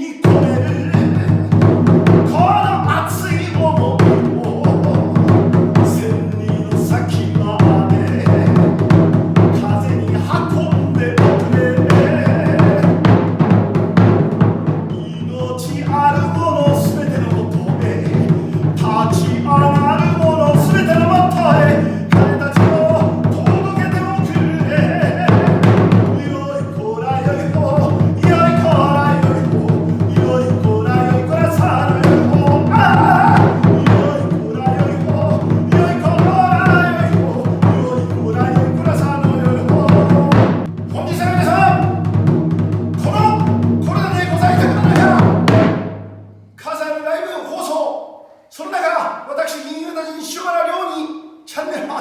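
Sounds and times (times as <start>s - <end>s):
person singing: 0.0s - 13.2s, 14.9s - 42.1s, 43.0s - 45.6s
folk-style drumming: 0.0s - 46.3s.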